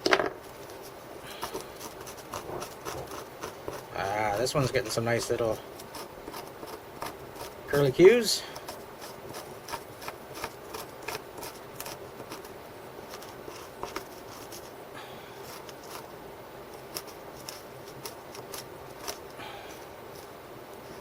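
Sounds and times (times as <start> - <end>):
knife scraping wood: 0.5 - 16.1, 16.7 - 21.0.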